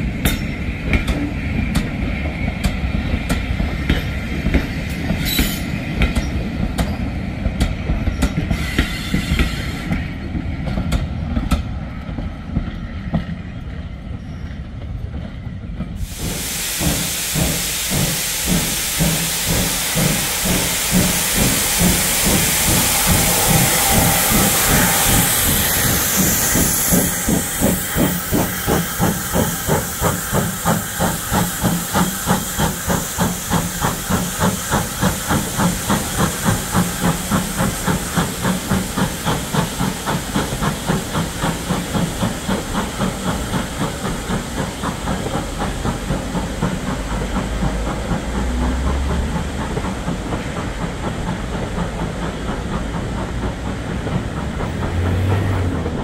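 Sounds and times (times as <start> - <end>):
loud steam hiss: 0.0 - 10.1, 15.9 - 56.0
steam locomotive exhaust beat: 0.0 - 13.7, 15.6 - 56.0.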